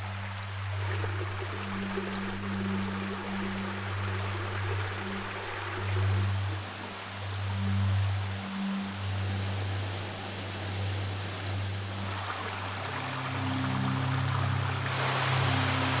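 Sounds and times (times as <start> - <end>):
low humming drone: 0.0 - 16.0
rushing water hiss: 0.0 - 16.0.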